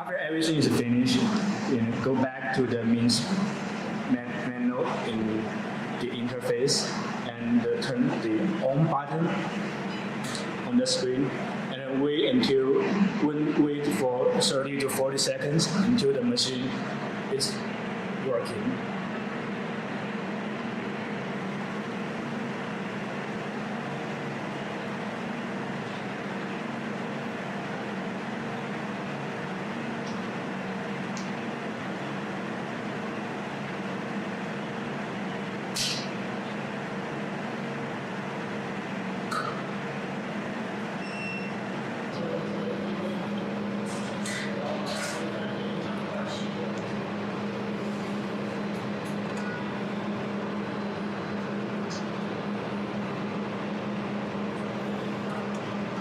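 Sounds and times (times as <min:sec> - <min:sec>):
machine hum with cooling fan: 0:00.0 - 0:56.0.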